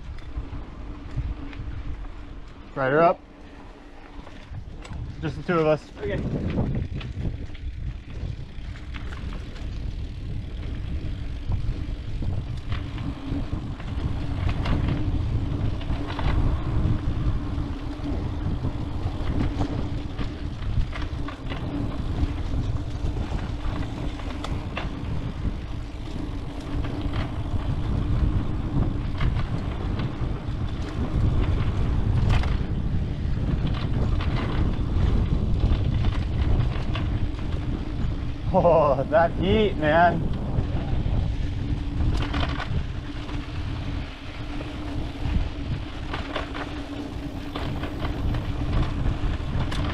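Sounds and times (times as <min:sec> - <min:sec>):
bike clacking and rattling: 0:00.0 - 0:49.9
wind buffeting microphone: 0:00.0 - 0:49.9.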